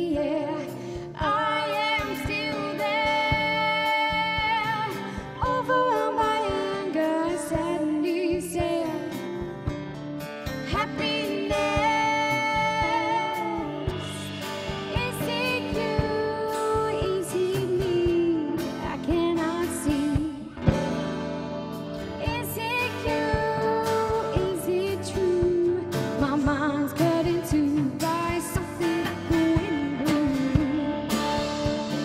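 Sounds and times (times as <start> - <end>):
woman singing: 0.0 - 9.6, 10.5 - 20.8, 22.2 - 32.0
live band playing: 0.0 - 32.0.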